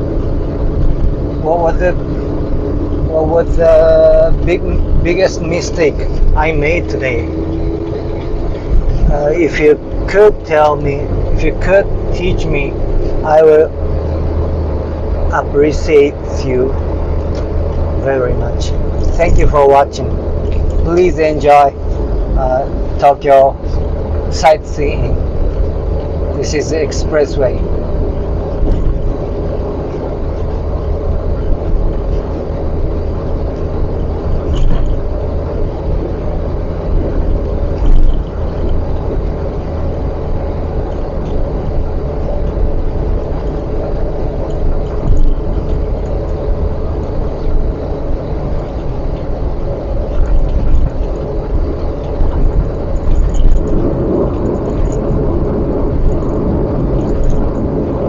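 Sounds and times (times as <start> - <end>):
car driving at speed: 0.0 - 58.0.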